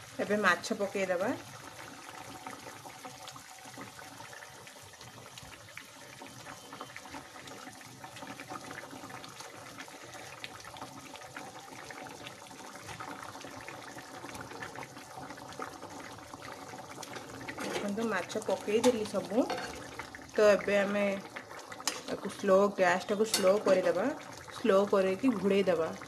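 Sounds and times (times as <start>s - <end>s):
curry bubbling and popping: 0.0s - 26.0s.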